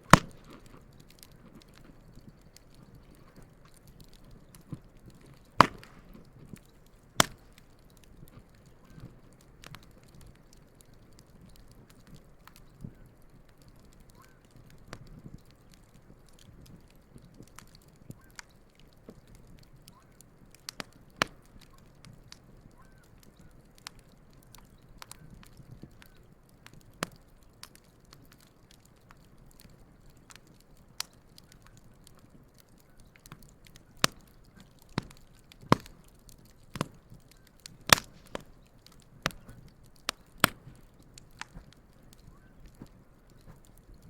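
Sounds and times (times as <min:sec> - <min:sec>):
campfire crackling: 0:00.0 - 0:44.0
sharp pops of burning wood: 0:00.0 - 0:44.0.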